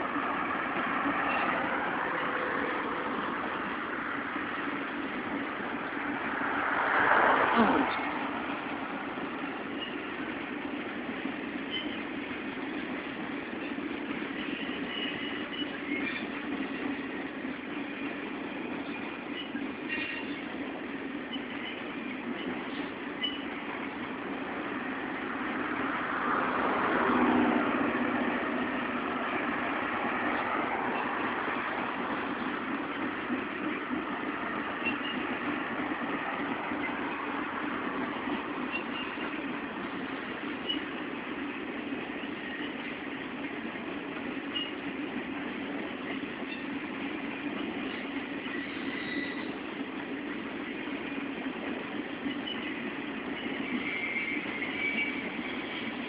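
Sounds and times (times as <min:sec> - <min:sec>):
rumble of wheels on rail: 0:00.0 - 0:56.0.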